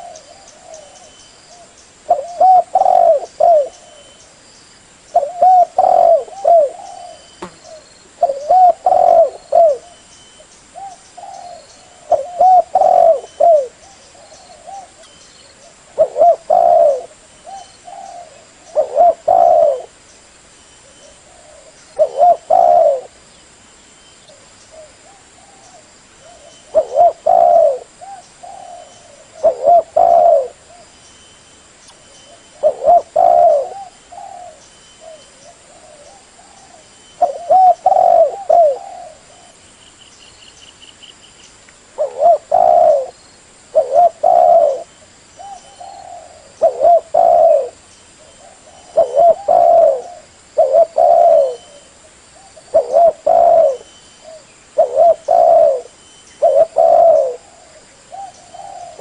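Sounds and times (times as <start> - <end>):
dove cooing: 0.0 - 4.2, 5.1 - 10.0, 10.8 - 20.0, 20.8 - 23.2, 24.3 - 30.9, 32.3 - 39.6, 42.0 - 59.0.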